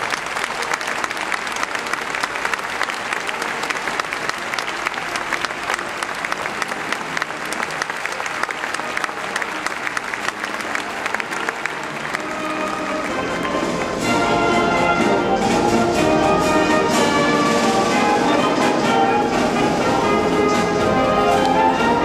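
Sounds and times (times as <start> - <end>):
large audience applauding: 0.0 - 22.0.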